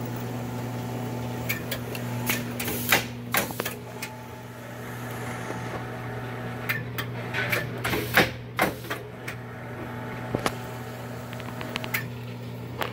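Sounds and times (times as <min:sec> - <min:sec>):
machine hum: 0:00.0 - 0:12.9.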